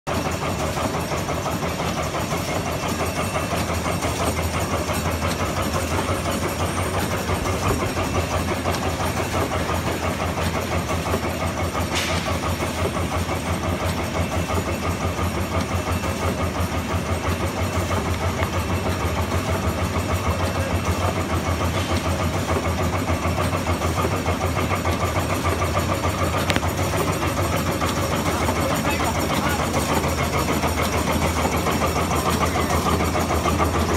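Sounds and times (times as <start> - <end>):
rapid mechanical clatter: 0.1 - 33.9.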